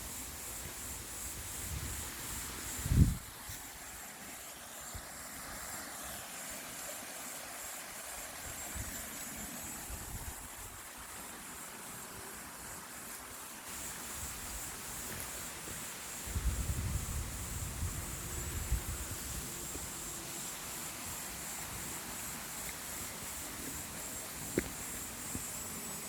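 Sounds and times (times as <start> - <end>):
steady outdoor hiss: 0.0 - 26.0.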